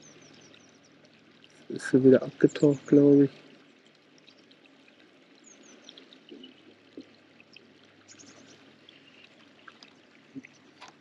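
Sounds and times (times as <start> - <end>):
faint trickle of water: 0.0 - 11.0.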